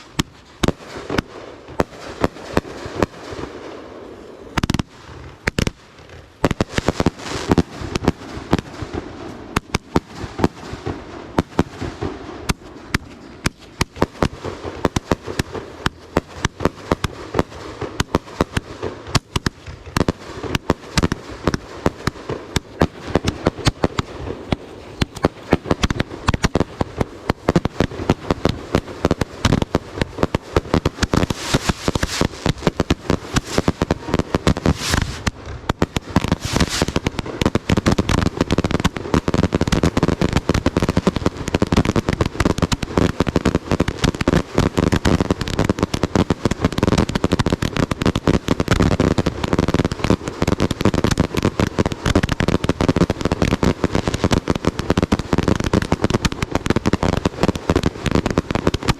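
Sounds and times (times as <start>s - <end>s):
fireworks crackling and banging: 0.0s - 58.9s.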